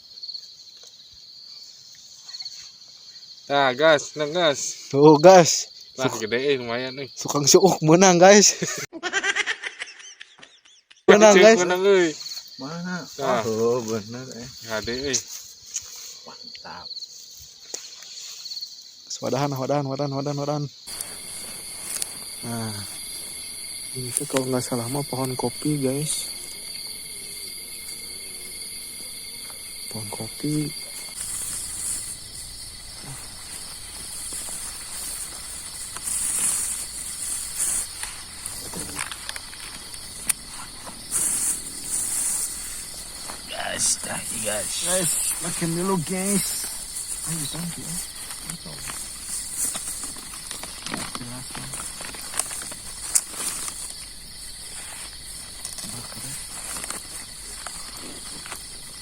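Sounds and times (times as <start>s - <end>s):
crickets chirring: 0.0s - 59.0s
faint rustling in vegetation: 11.1s - 59.0s.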